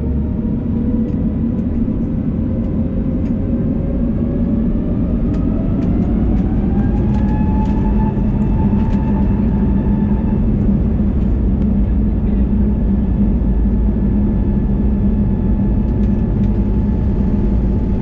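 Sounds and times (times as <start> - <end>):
jet engine rumble and whine: 0.0 - 18.0.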